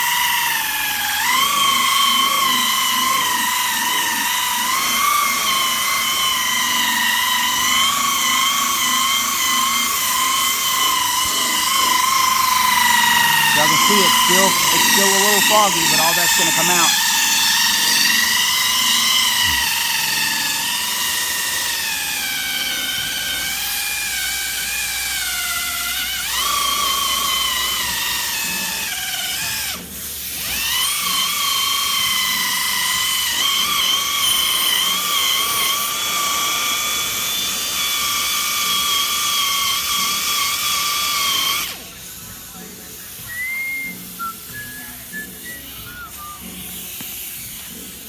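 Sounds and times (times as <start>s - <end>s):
electric buffer whining: 0.0s - 48.0s.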